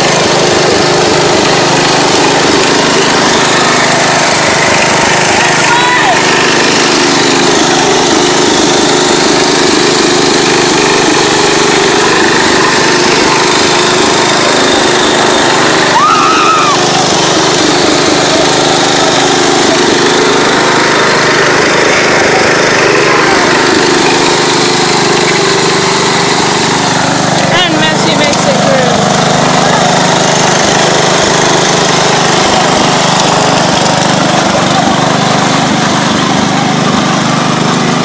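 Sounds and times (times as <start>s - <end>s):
lawn tractor engine running: 0.0s - 38.0s.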